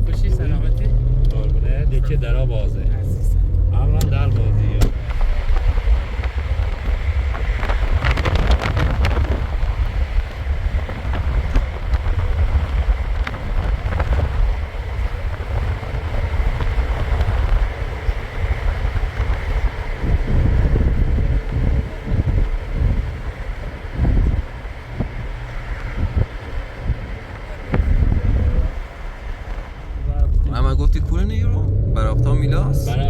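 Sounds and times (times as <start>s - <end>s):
road rumble: 0.0s - 33.0s
wind noise on microphone: 0.0s - 33.0s.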